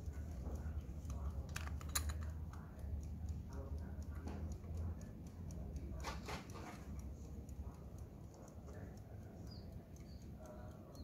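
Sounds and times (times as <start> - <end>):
alarm clock ticking: 0.0 - 11.0.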